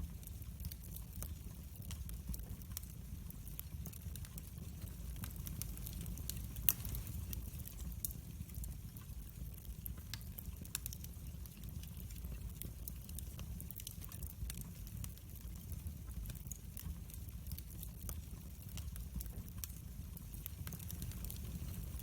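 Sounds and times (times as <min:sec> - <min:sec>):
fire popping loudly: 0:00.0 - 0:22.0
wood fire crackling: 0:00.0 - 0:22.0.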